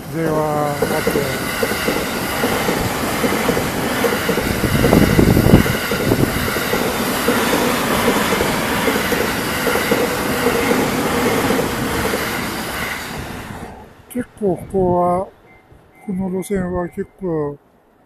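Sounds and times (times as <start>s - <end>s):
train wheels rumbling on rails: 0.0s - 17.2s.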